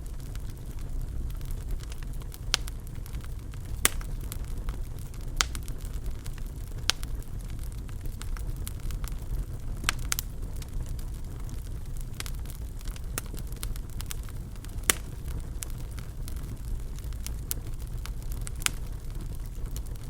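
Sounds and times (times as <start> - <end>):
fire crackling: 0.0 - 20.0
low rumble of flames: 0.0 - 20.0
sharp pops of burning wood: 0.0 - 20.0.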